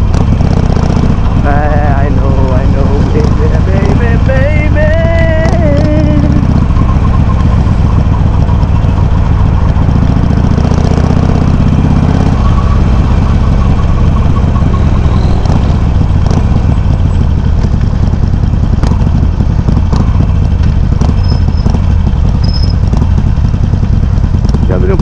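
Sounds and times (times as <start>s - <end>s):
motorcycle engine running loud: 0.0s - 25.0s.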